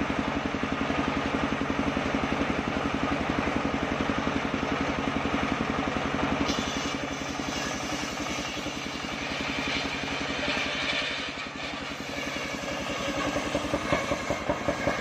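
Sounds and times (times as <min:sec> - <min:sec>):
sawmill engine chugging: 0:00.0 - 0:15.0.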